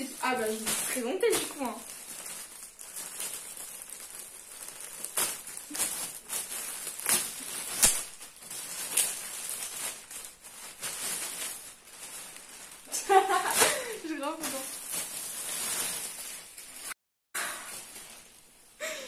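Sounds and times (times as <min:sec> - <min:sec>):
sharp crackle: 0:00.0 - 0:18.7
packaging rustling and crinkling: 0:00.0 - 0:18.8.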